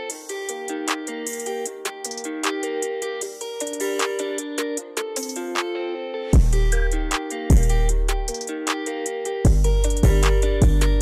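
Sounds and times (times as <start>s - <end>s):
plucked string music with beat: 0.0s - 11.0s.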